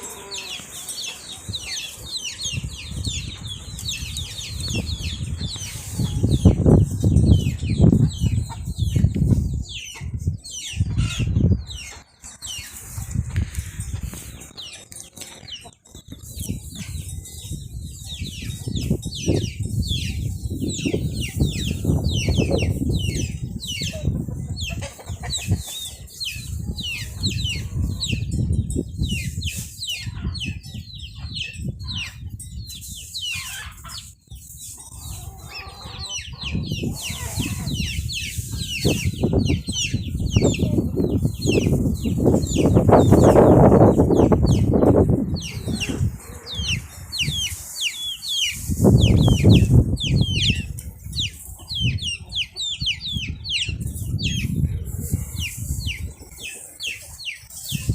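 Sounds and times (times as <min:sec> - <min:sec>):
chickens chirping: 0:00.0 - 0:57.9.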